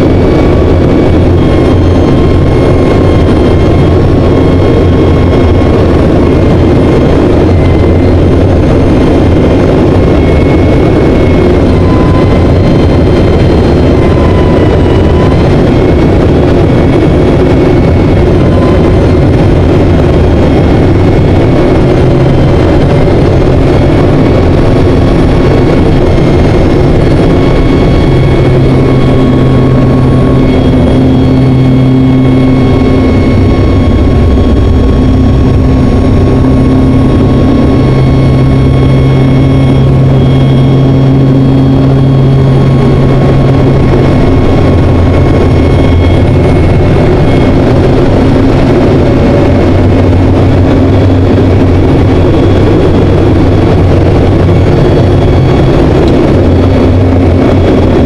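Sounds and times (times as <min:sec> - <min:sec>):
airflow noise: 0:00.0 - 0:58.0
propeller aircraft engine droning: 0:00.0 - 0:58.0.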